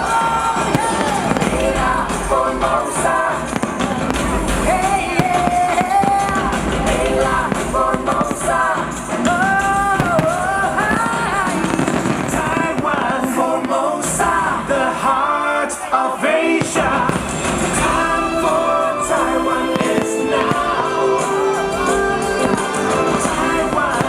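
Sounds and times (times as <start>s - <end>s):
fireworks popping and crackling: 0.0s - 15.6s, 16.4s - 24.0s
pop song over loudspeakers: 0.0s - 24.0s.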